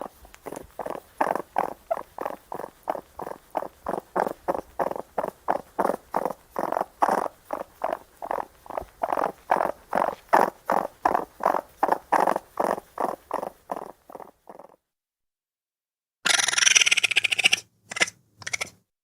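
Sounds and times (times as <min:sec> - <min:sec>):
raccoon chittering: 0:00.0 - 0:14.8, 0:16.3 - 0:18.7.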